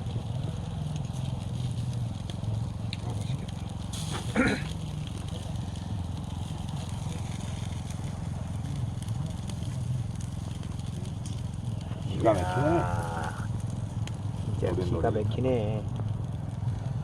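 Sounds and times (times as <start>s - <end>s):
charcoal crackling: 0.0s - 17.0s.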